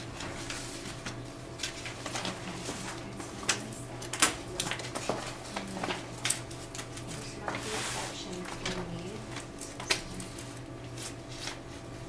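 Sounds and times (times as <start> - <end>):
low room hum: 0.0 - 12.0
papers and binders rustling: 0.0 - 12.0.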